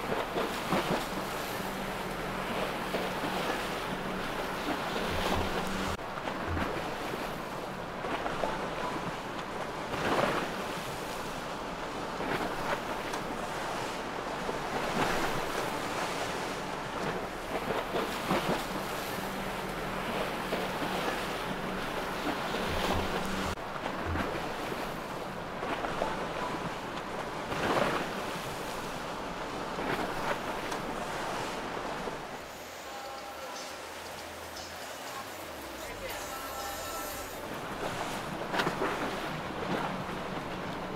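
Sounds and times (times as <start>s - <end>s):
faint boat engine hum: 0.0s - 40.9s
water rushing along boat hull: 0.0s - 40.9s.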